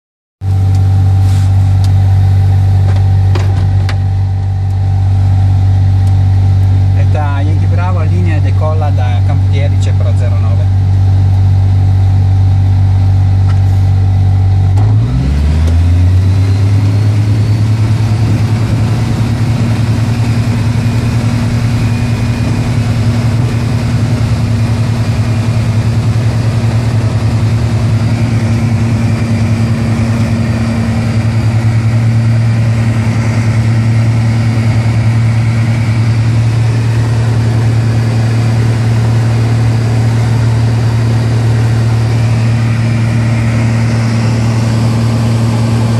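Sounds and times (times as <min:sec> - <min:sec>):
light aircraft engine and propeller: 0:00.4 - 0:45.9.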